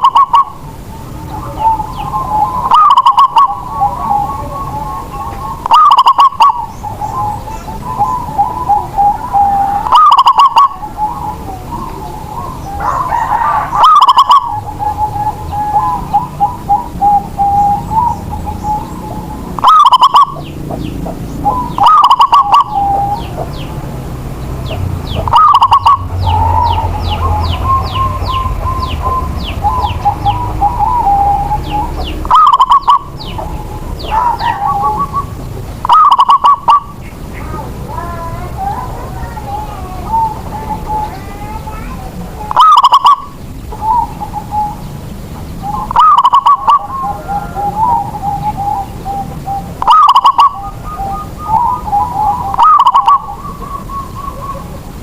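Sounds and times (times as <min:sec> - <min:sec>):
high bird chirps: 0:00.0 - 0:54.9
birds warbling: 0:00.0 - 0:55.0
dove cooing: 0:00.0 - 0:55.0.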